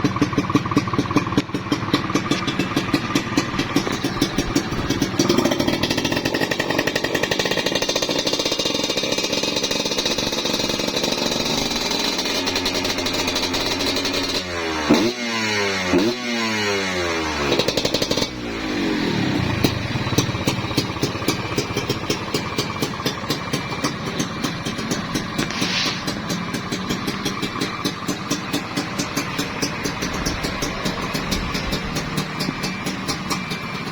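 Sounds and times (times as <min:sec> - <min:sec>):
dirt bike engine revving and idling: 0:00.0 - 0:33.9.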